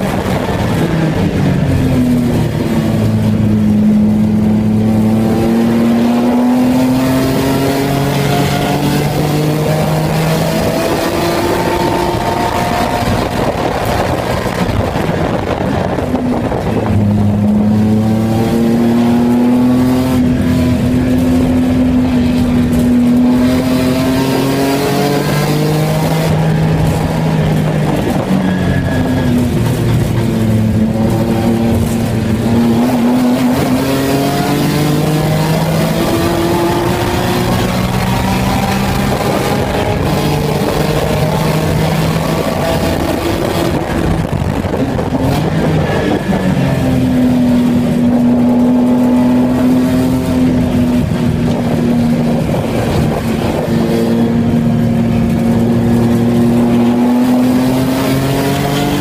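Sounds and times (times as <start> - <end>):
race car engine: 0.0 - 59.0
road and wind noise: 0.0 - 59.0.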